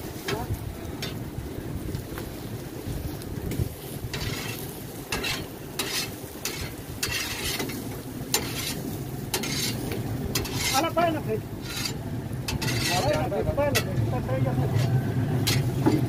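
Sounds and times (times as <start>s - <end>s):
meat sizzling: 0.0s - 16.0s
metal spatula scraping grill grate: 0.1s - 1.3s, 3.0s - 16.0s.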